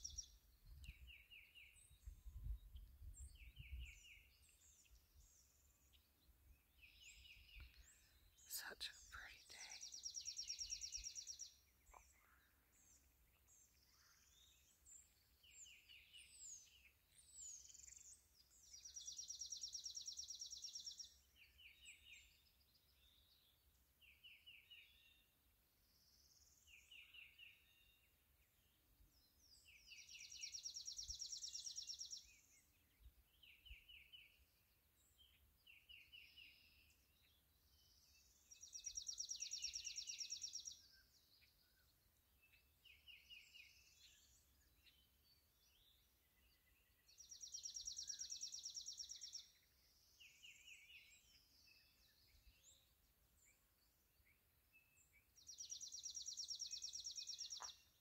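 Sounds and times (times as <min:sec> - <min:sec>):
bird chirps: 0:00.0 - 0:25.2, 0:29.5 - 0:58.0.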